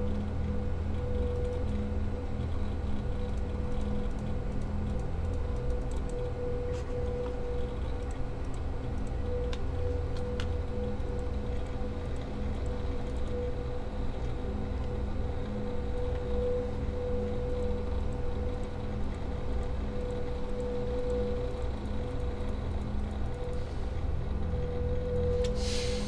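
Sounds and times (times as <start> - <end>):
low steady drone: 0.0 - 26.0.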